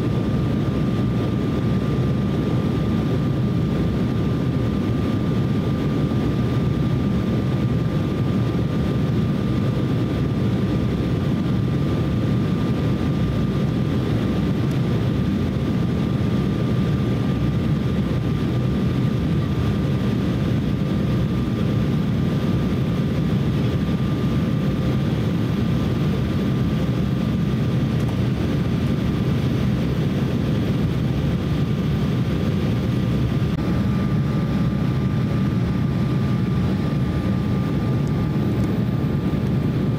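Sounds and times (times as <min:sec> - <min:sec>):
airflow rushing in cabin: 0:00.0 - 0:39.9
faint steady whine: 0:00.0 - 0:39.9
jet engines humming: 0:00.0 - 0:39.9.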